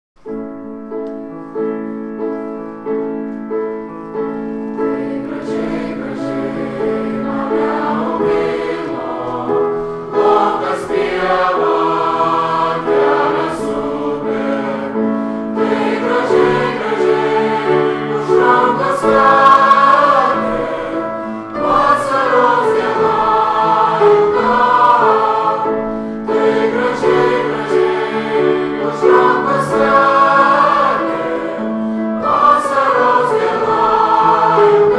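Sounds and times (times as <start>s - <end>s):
choir singing: 4.1s - 34.9s.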